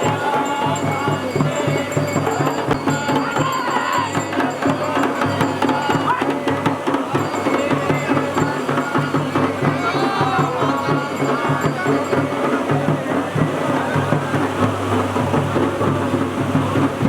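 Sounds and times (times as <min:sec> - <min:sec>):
rhythmic drumming: 0:00.0 - 0:17.0.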